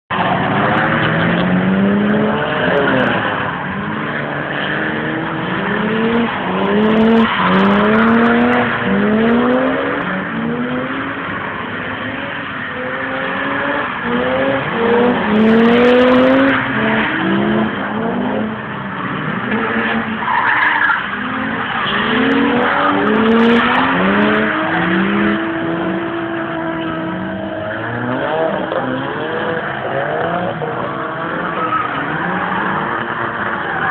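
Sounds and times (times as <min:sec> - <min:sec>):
car engine revving hard: 0:00.1 - 0:20.4, 0:21.1 - 0:33.9
tyres squealing and skidding: 0:00.1 - 0:33.9.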